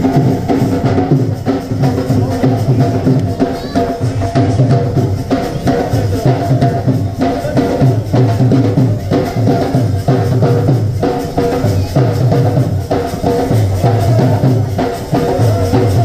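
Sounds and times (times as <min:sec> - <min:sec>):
dhol drum beat: 0:00.0 - 0:16.0.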